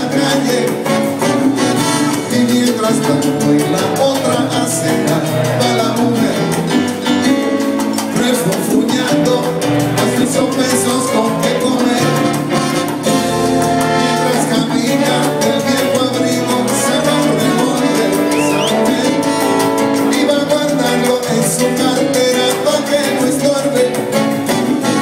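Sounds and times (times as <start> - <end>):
live salsa band: 0.0 - 25.0
percussion beat: 0.0 - 25.0.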